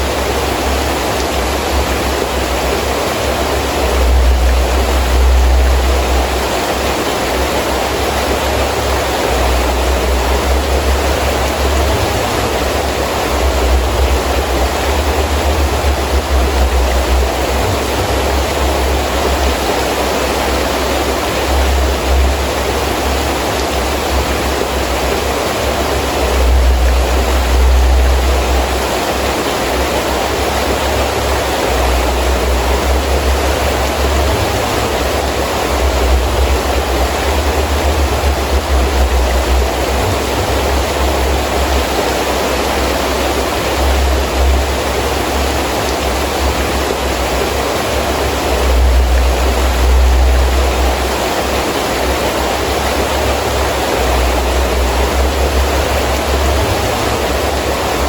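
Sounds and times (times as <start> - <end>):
heavy rain falling: 0.0 - 58.0
wind gusts rumbling: 0.0 - 58.0.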